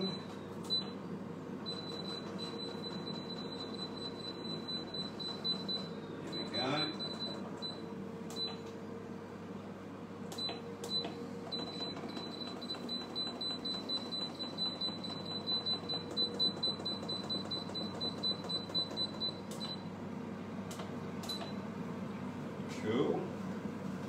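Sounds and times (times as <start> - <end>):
air fryer control panel beeping: 0.0 - 8.8, 10.3 - 20.0, 20.7 - 21.6
appliance hum: 0.0 - 24.0.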